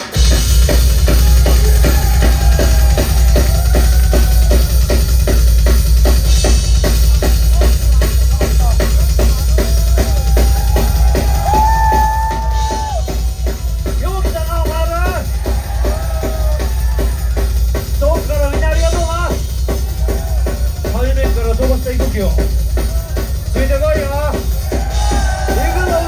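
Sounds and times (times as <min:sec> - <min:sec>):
fast drum beat: 0:00.0 - 0:26.0
heavy bass: 0:00.0 - 0:26.0
rock band playing: 0:00.0 - 0:26.0.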